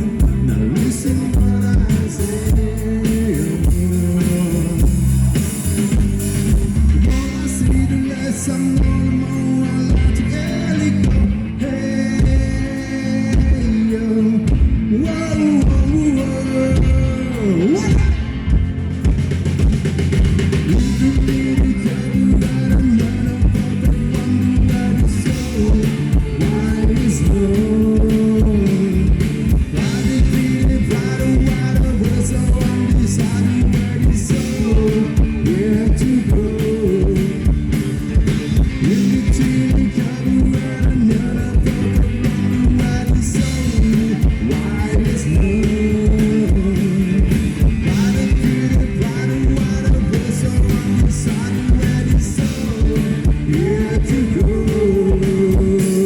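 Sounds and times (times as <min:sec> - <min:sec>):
electric guitar: 0:00.0 - 0:56.0
live rock band playing: 0:00.0 - 0:56.0
steady drum beat: 0:00.0 - 0:56.0.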